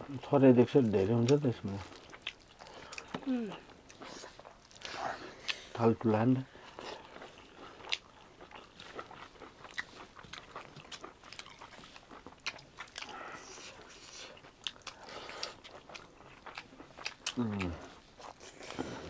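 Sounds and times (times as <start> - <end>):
person chewing food: 0.8 - 5.8, 6.4 - 19.0.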